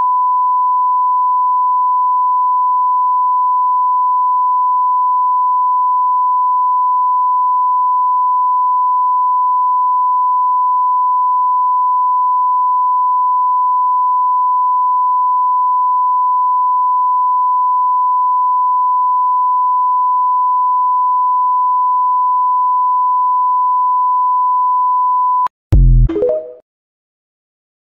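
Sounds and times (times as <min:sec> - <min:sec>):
sine test tone: 0:00.0 - 0:25.5.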